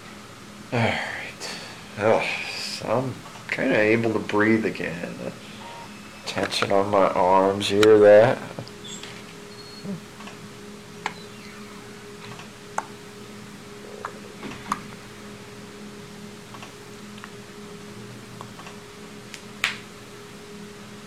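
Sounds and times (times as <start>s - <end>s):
blood pressure cuff humming: 1.4s - 20.9s.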